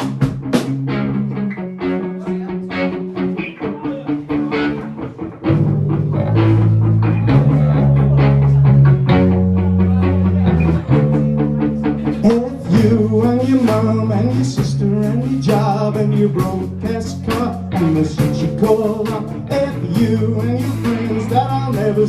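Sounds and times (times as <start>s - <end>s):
bass and drums: 0.0s - 1.5s, 4.3s - 22.0s
electric guitar: 0.0s - 22.0s.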